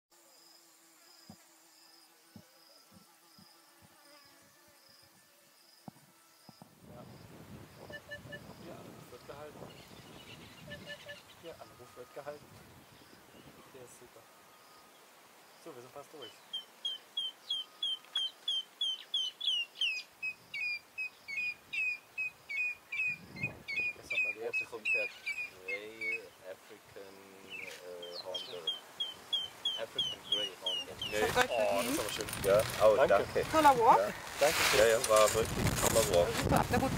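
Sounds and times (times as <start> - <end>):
cricket chirping: 0.2 - 36.8.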